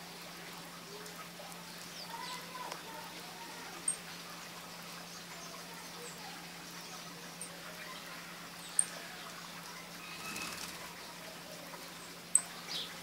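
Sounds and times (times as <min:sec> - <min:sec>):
small birds chirping: 0:01.0 - 0:13.0.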